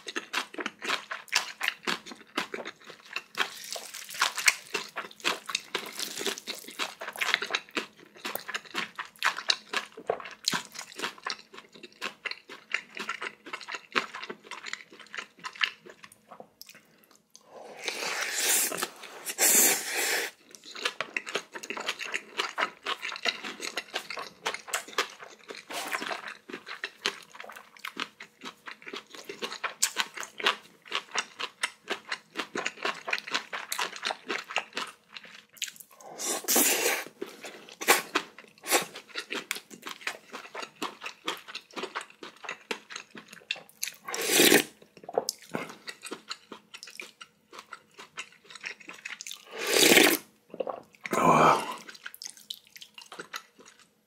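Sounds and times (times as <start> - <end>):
person chewing wetly: 0.0 - 54.0.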